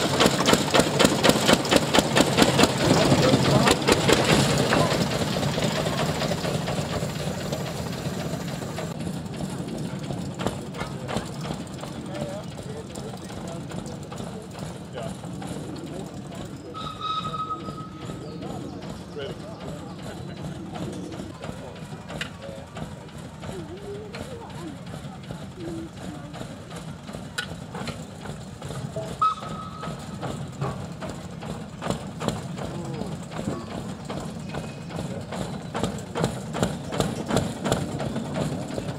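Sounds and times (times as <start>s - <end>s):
diesel locomotive engine running: 0.0s - 38.9s.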